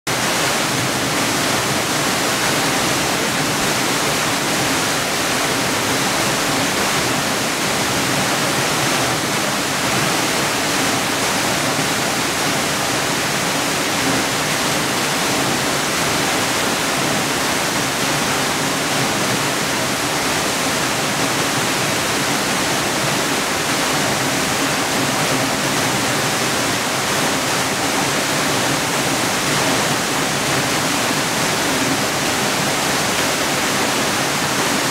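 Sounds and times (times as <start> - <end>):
waterfall crashing: 0.1 - 34.9.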